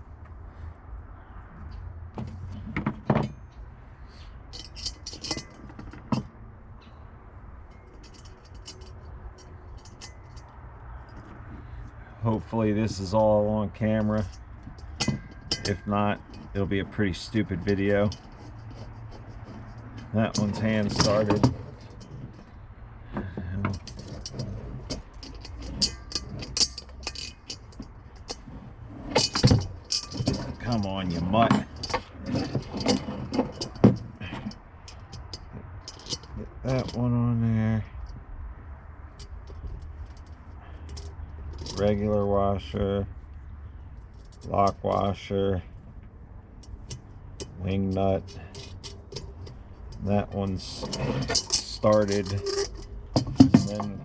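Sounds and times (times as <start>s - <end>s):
metal hardware clinking and rattling: 1.6s - 3.7s, 4.4s - 7.0s, 7.6s - 43.0s, 43.6s - 54.0s.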